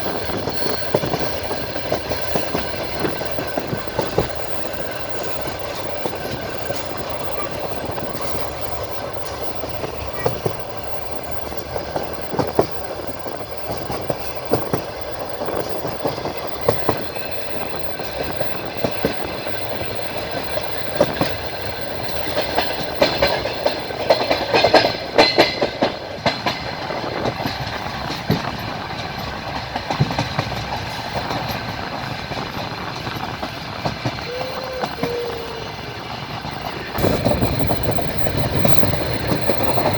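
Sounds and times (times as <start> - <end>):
train running rumble: 0.0 - 39.9
train wheels clacking: 0.0 - 39.9.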